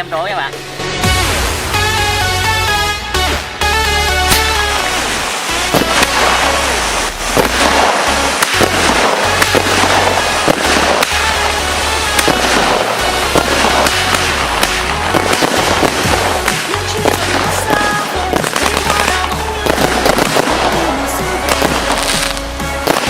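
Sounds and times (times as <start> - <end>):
background music with bass line: 0.0 - 23.0
fireworks bangs and crackling pops: 4.3 - 23.0.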